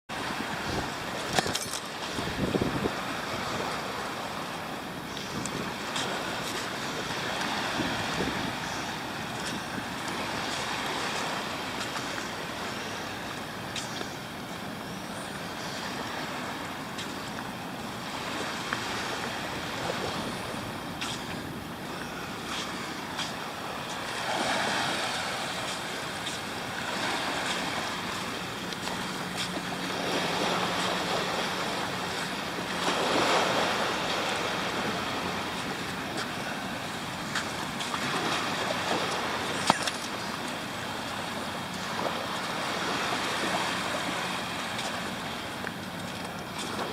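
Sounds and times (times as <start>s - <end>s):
wind on microphone: 0.1s - 14.4s, 15.2s - 40.3s
sea surf breaking on shore: 0.1s - 46.9s.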